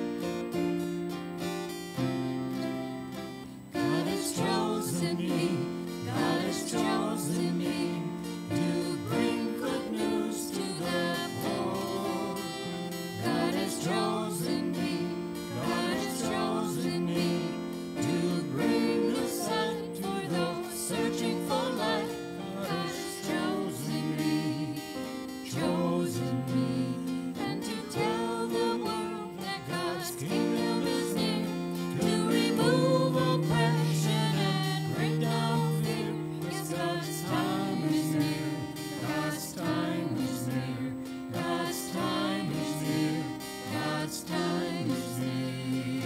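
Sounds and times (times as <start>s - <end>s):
acoustic guitar: 0.0s - 46.0s
piano: 0.0s - 46.0s
group singing a hymn: 1.6s - 46.0s.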